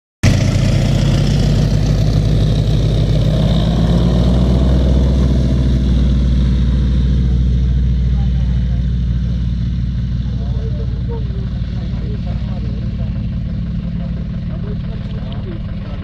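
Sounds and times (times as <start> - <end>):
radial aircraft engine droning: 0.2 - 16.0.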